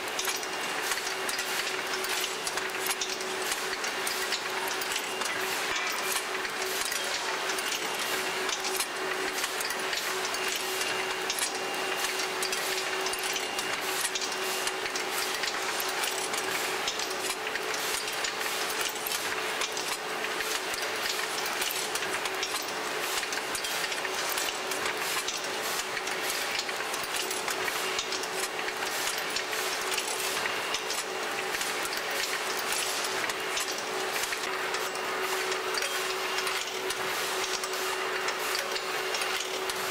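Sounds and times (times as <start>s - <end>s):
machine clicking and clattering: 0.0s - 39.9s.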